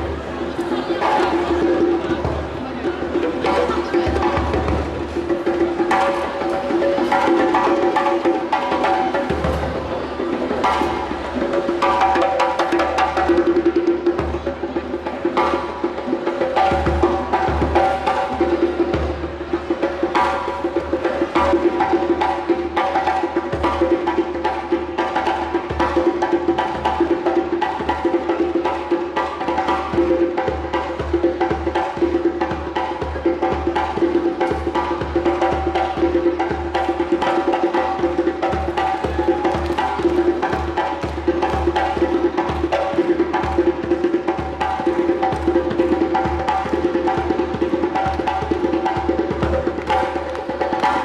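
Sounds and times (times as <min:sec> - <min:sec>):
fast drumming: 0:00.0 - 0:51.0.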